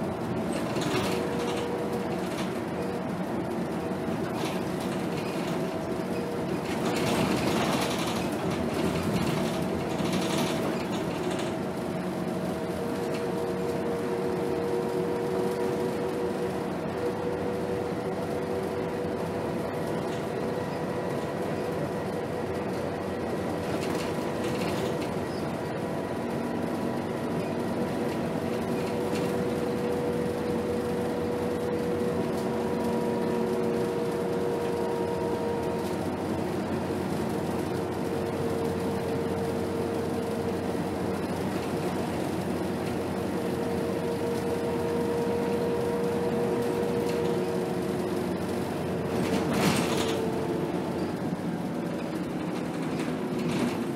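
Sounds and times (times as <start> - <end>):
bus engine and road noise: 0.0 - 53.9.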